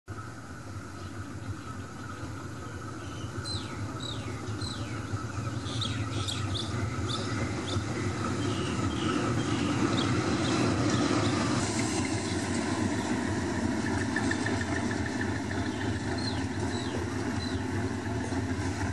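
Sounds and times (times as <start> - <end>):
locomotive diesel engine rumble: 0.8 - 18.9
birds chirping: 0.9 - 18.6.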